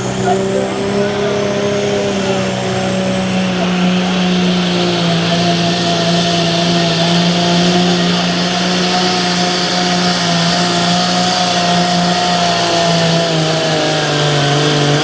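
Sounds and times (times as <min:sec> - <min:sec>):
tractor diesel engine running flat out: 0:00.0 - 0:15.0.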